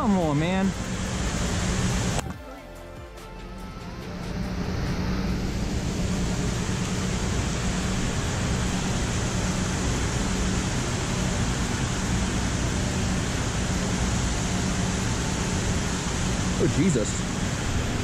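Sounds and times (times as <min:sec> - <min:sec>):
creek water rushing: 0:00.0 - 0:03.0, 0:04.0 - 0:18.0.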